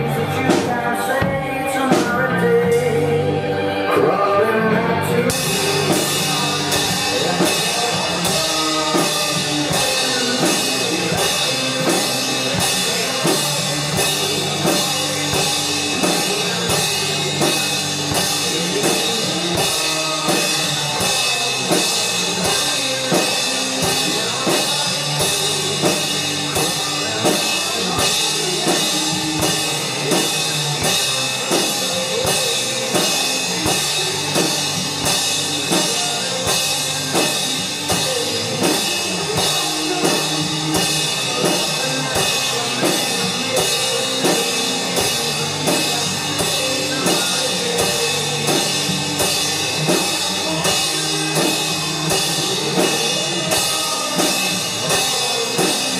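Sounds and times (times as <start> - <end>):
band backing track: 0.0 - 55.9
drum kit playing rock beat: 0.0 - 55.9.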